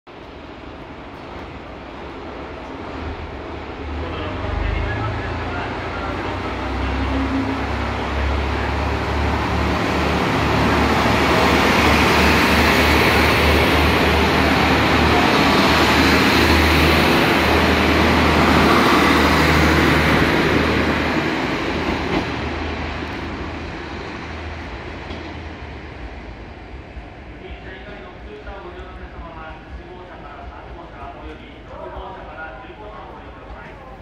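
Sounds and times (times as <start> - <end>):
diesel railcar engine hum: 0.1 - 29.2
train wheel noise: 6.0 - 34.0.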